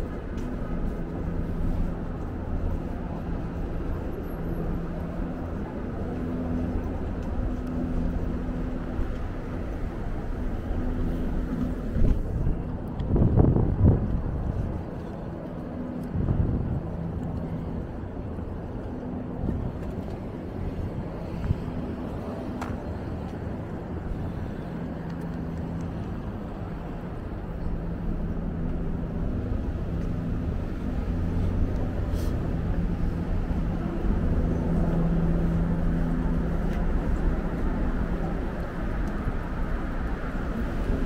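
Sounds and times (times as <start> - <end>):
low engine hum: 0.0 - 41.0
passing and idling vehicles: 0.0 - 41.0.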